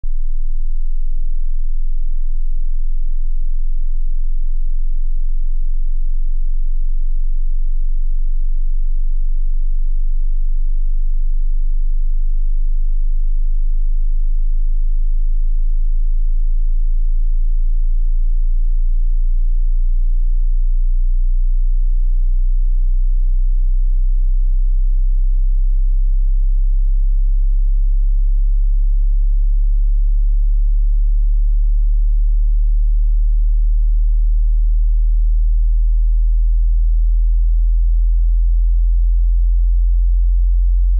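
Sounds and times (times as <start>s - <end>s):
low bass sine tone: 0.0s - 40.9s.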